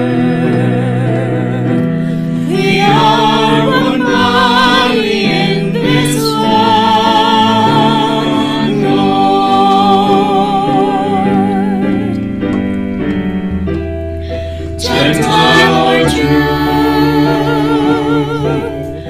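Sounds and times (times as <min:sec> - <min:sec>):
person singing with vibrato: 0:00.0 - 0:12.2, 0:14.6 - 0:19.0
sustained keyboard accompaniment: 0:00.0 - 0:19.0.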